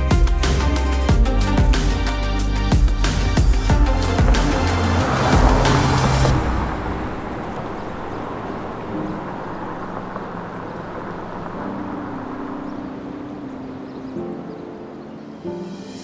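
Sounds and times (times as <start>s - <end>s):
soft music with low chords: 0.0s - 16.0s.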